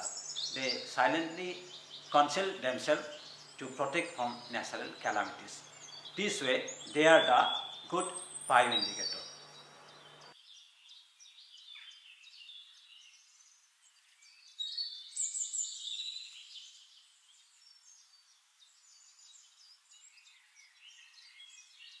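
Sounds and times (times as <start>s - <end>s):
small birds chirping and twittering: 0.0s - 22.0s.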